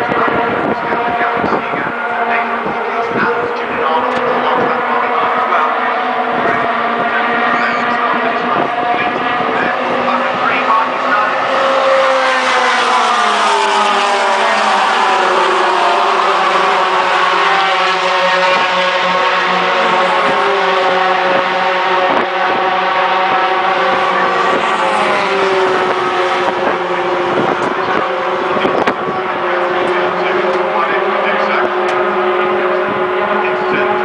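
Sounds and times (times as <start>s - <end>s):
racing truck engines running hard: 0.0s - 34.0s.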